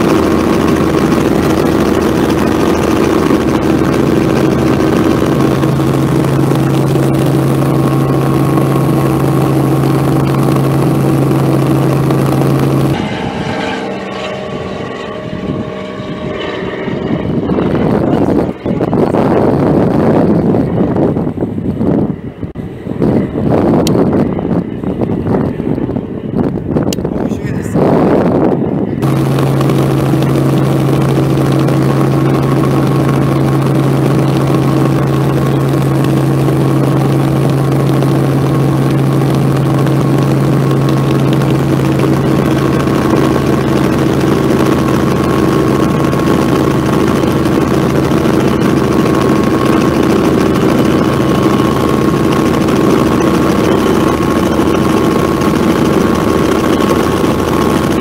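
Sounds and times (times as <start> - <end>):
helicopter engine and rotors droning: 0.0 - 58.0.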